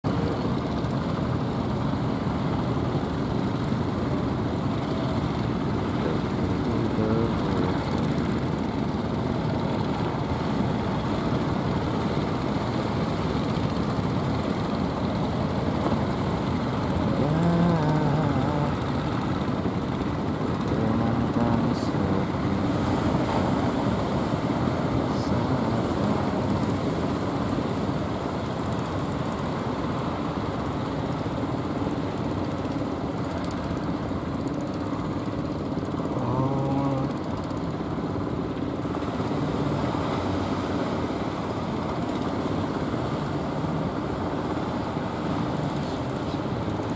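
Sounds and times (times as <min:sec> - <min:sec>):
boat engines droning: 0:00.1 - 0:46.9.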